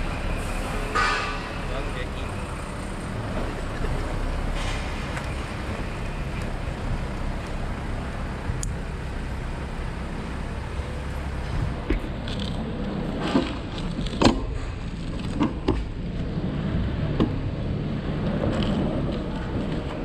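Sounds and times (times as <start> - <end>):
outdoor rumble and hiss: 0.0 - 20.0.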